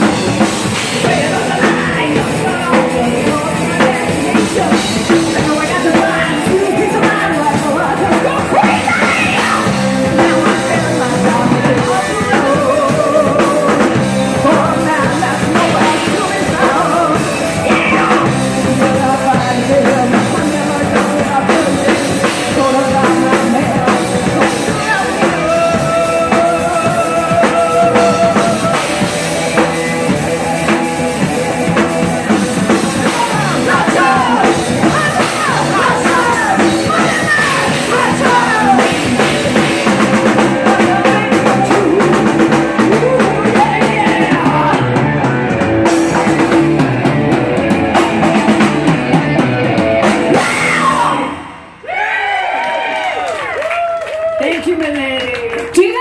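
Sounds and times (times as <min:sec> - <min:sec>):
live rock band playing: 0:00.0 - 0:51.9
woman singing lead: 0:00.0 - 0:52.0.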